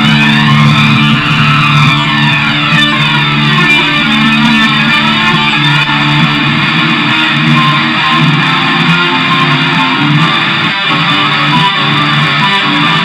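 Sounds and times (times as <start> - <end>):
electric guitar: 0.0 - 13.0
low bass notes: 0.0 - 13.0.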